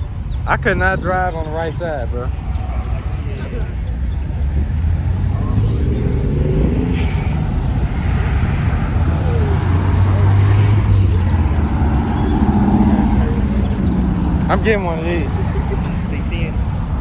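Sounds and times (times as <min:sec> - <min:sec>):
cars rolling slowly past: 0:00.0 - 0:17.0.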